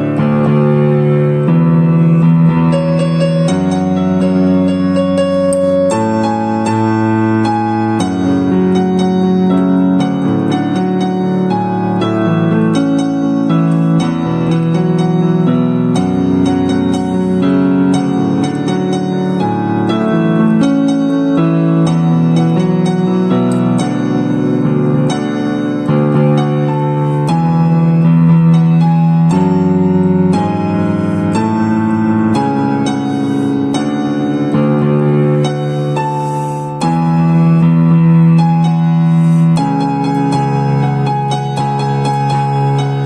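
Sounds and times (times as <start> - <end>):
soft piano music: 0.0 - 43.0.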